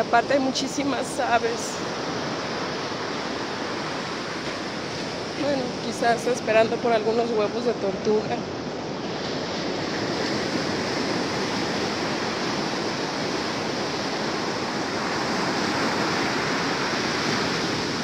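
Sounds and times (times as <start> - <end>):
ocean surf breaking on beach: 0.0 - 18.0.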